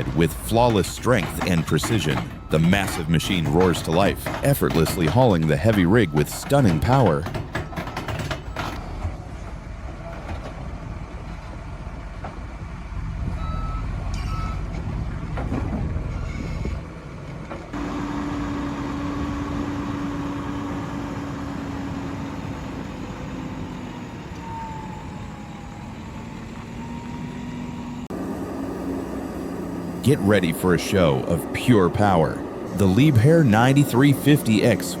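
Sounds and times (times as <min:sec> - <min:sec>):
heavy machinery engine rumbling: 0:00.0 - 0:35.0.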